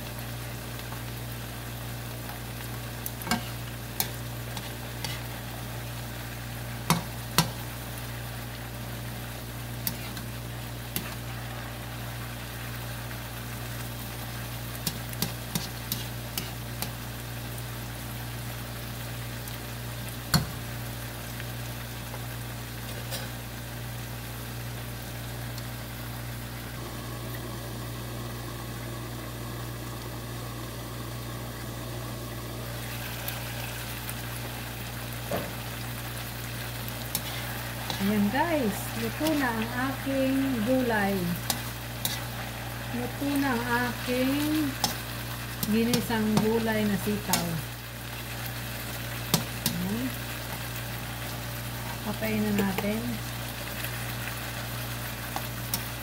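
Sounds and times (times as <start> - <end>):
steady low hum: 0.0 - 21.2, 24.9 - 53.7
food sizzling in a wok: 0.0 - 56.0.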